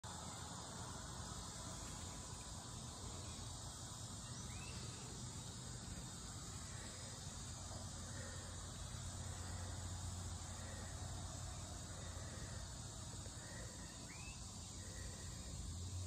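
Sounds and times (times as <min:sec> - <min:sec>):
insects droning: 0:00.0 - 0:16.0
low steady hum: 0:00.0 - 0:16.0.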